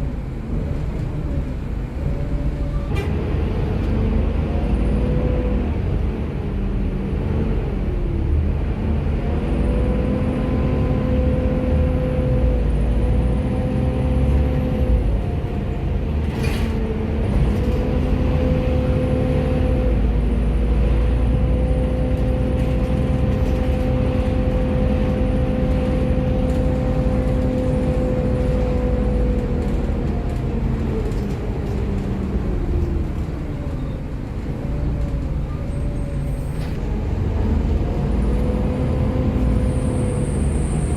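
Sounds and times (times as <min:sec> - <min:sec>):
bus engine rumble and whine: 0:00.0 - 0:40.9.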